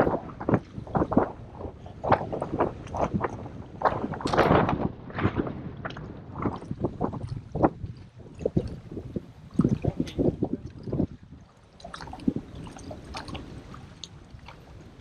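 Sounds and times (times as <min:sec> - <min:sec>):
water splashing against hull: 0:00.0 - 0:15.0.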